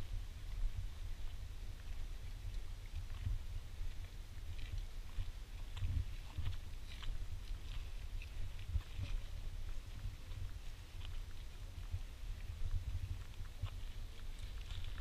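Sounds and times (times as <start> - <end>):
wind on microphone: 0.0 - 15.0
footsteps crunching on path: 0.5 - 15.0.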